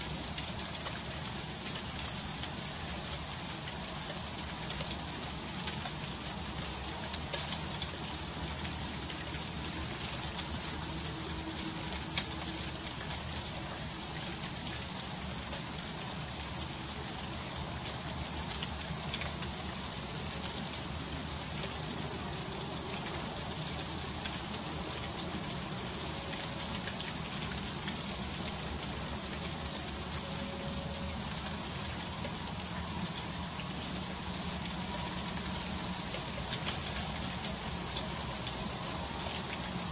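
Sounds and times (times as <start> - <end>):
freezing rain hissing: 0.0 - 39.9.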